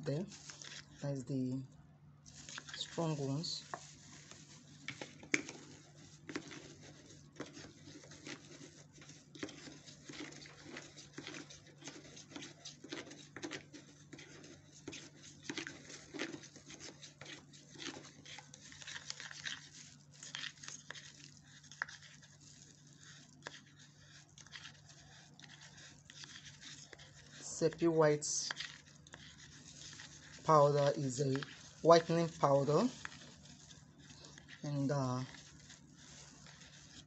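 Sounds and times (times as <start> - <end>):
metal spoon scraping plastic cup: 2.3 - 37.0.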